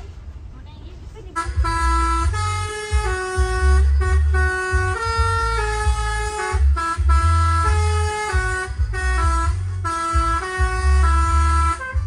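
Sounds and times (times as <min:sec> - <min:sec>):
heavy low rumble: 0:00.0 - 0:12.0
bus air horn melody: 0:01.2 - 0:12.0.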